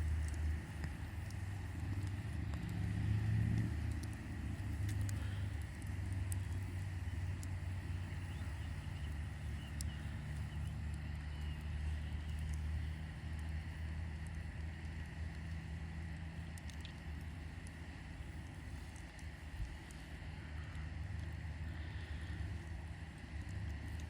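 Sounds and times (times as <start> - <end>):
campfire crackling: 0.0 - 24.0
low fire rumble: 0.0 - 24.0.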